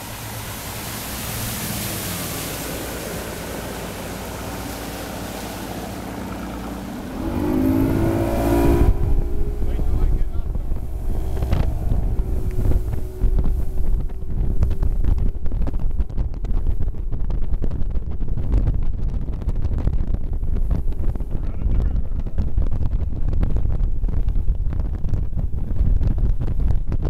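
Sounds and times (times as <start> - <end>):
steady hum: 0.0 - 23.6
outboard motor drone: 0.0 - 27.0
wind buffeting microphone: 0.0 - 27.0.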